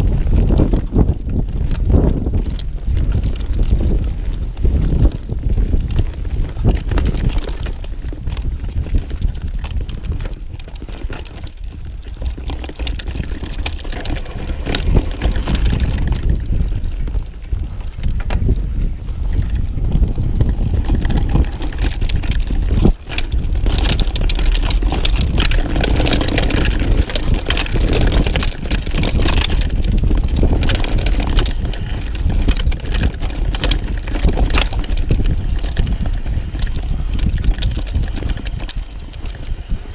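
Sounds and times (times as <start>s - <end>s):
bike chain and frame rattling: 0.0s - 39.9s
bike tyres rumbling on dirt: 0.0s - 39.9s
wind buffeting microphone: 0.0s - 39.9s.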